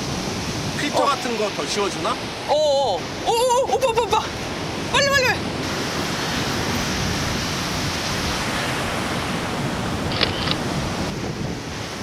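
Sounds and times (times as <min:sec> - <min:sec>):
ocean waves washing onto beach: 0:00.0 - 0:12.0.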